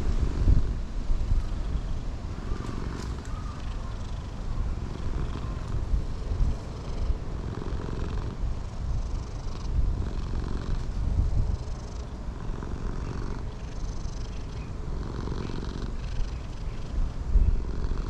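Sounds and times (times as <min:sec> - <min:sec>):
cat purring: 0:00.0 - 0:00.8, 0:02.3 - 0:18.0.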